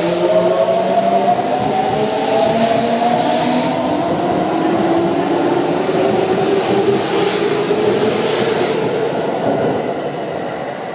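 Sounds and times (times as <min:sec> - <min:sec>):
train wheels on rails: 0:00.0 - 0:10.9.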